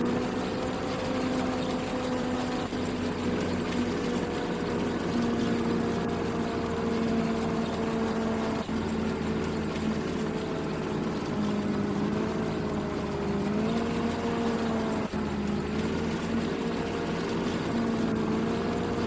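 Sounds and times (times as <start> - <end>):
combine harvester engine droning: 0.0 - 19.0.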